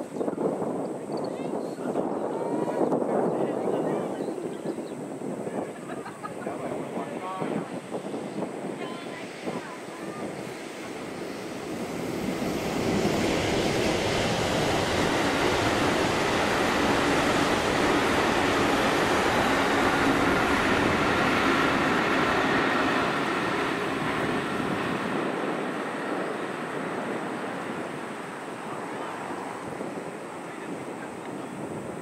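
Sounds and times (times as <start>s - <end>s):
train wheels rumbling on rail: 4.9s - 32.0s.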